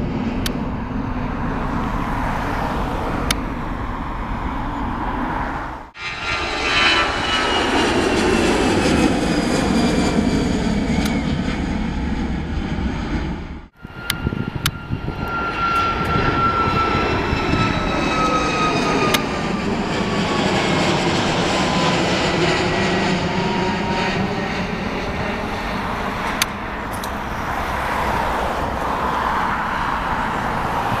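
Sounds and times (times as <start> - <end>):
jet airliner rumble and fan whine: 0.0 - 31.0.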